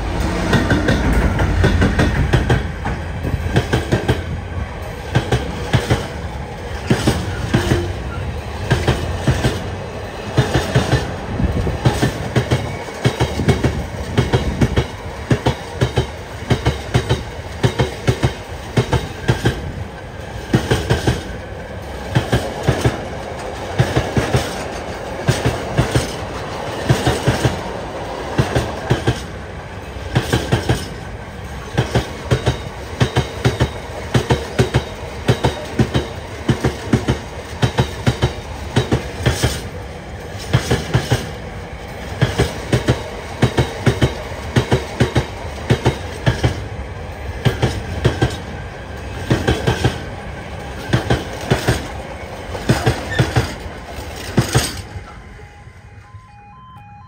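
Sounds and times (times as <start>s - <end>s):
train wheels clicking on joints: 0.0s - 55.3s
rumble of wheels on rail: 0.0s - 56.3s.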